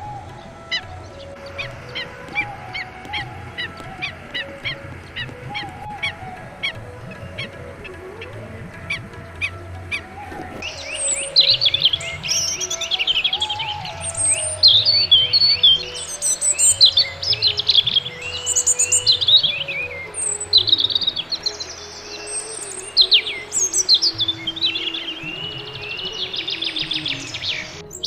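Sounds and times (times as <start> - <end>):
lower wavering bird notes: 0.0 - 28.0
high songbird chirping: 1.1 - 28.0.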